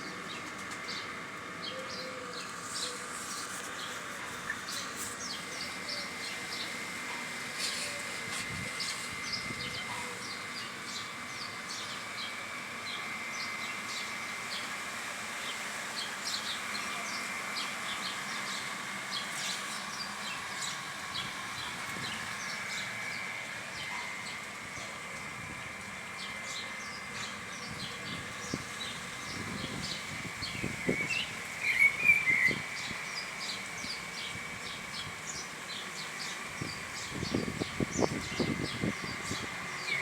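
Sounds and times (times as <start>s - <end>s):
small birds chirping: 0.2s - 40.0s.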